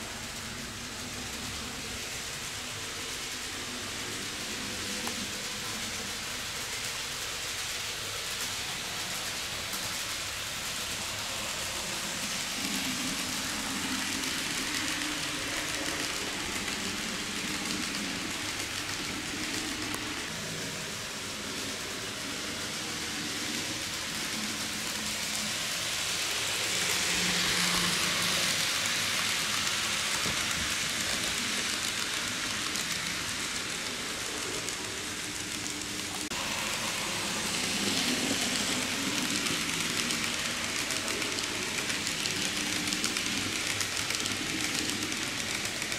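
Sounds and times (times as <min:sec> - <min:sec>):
small wheels rattling on rails: 0:00.0 - 0:45.9.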